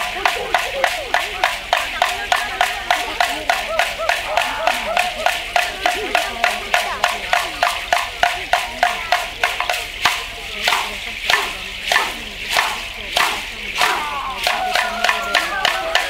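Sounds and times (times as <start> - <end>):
sharp rhythmic strikes: 0.0 - 16.0
voices calling out: 0.0 - 16.0.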